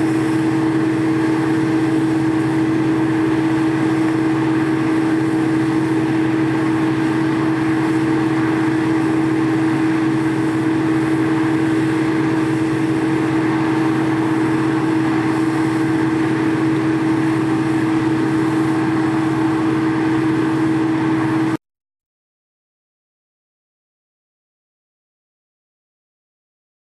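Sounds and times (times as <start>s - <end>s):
harvest machinery engine running: 0.0s - 21.6s.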